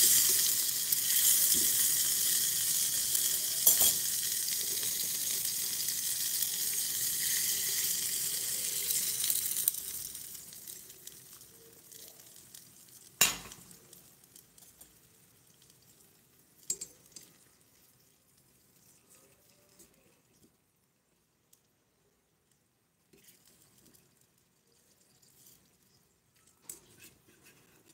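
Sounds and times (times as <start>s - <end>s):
liquid simmering and bubbling: 0.0s - 27.9s.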